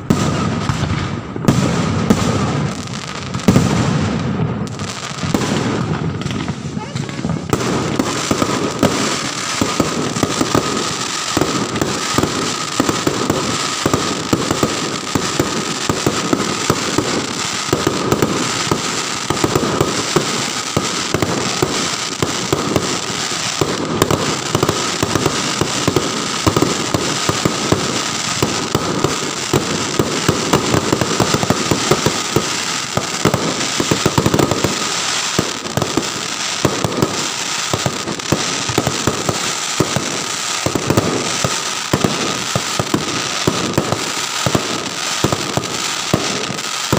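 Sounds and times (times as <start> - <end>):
fireworks and firecrackers banging: 0.0 - 46.9.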